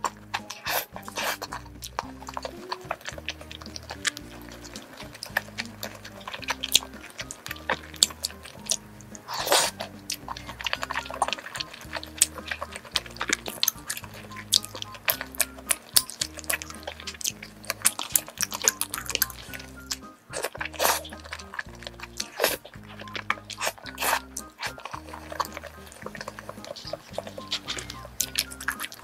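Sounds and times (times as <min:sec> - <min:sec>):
scissors snipping wet food: 0:00.0 - 0:29.0
soft background music: 0:00.0 - 0:29.0
wet squelches: 0:00.0 - 0:29.0.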